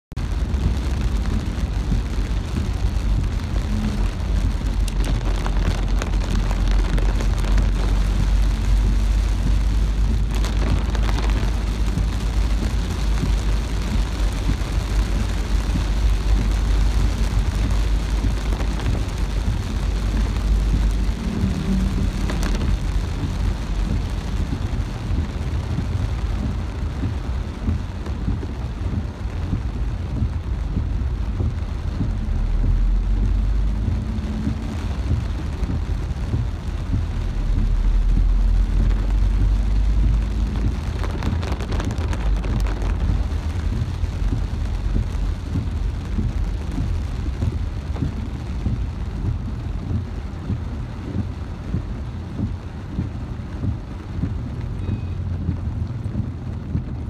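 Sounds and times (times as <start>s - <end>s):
heavy rain on car roof: 0.0s - 57.0s
car driving on wet road: 0.1s - 57.0s.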